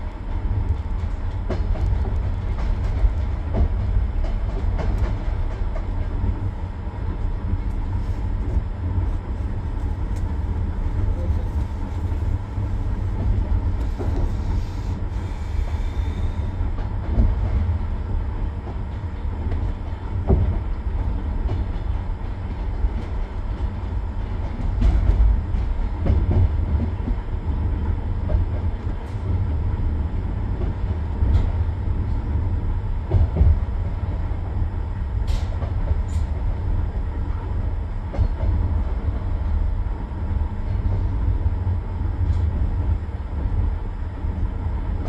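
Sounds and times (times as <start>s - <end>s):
train running gear rumbling: 0.0s - 45.0s.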